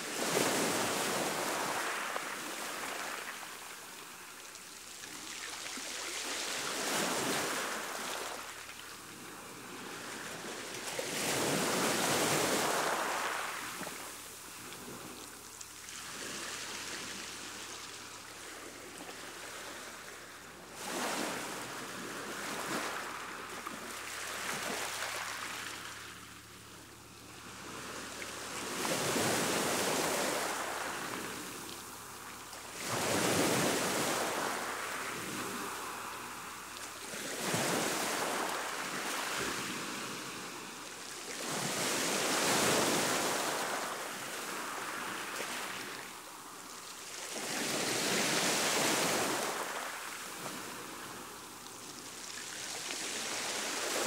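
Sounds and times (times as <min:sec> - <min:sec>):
surf washing on shore: 0:00.0 - 0:54.0.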